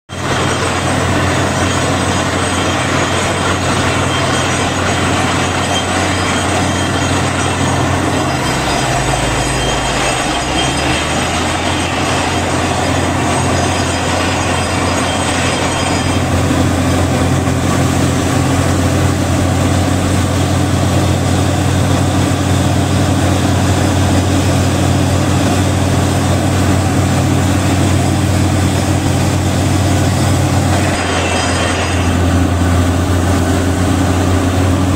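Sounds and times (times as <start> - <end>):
drilling rig running: 0.1 - 34.9.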